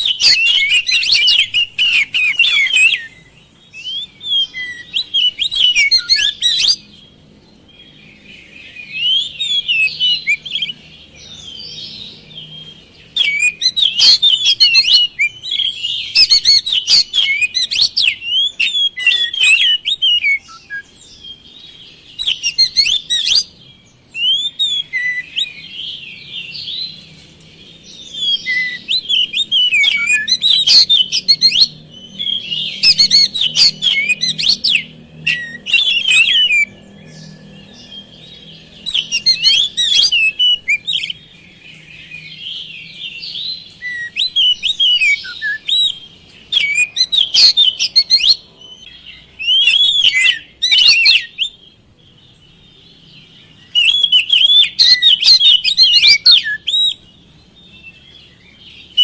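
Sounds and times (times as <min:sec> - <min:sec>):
bird singing whistled notes: 0:00.0 - 0:59.0.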